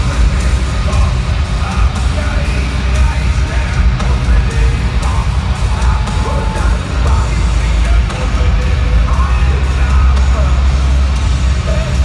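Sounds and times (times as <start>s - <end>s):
live heavy metal band: 0.0s - 12.0s.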